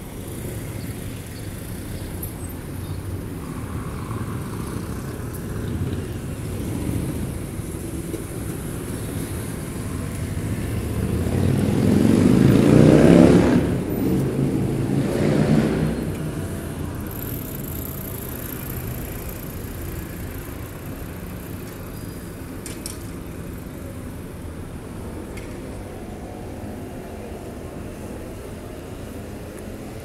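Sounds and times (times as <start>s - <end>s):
distant traffic: 0.0s - 30.0s
vehicles passing close by: 0.0s - 30.0s.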